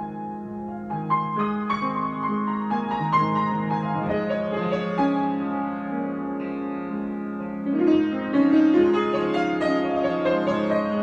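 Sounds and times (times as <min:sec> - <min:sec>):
solo piano playing: 0:00.0 - 0:11.0.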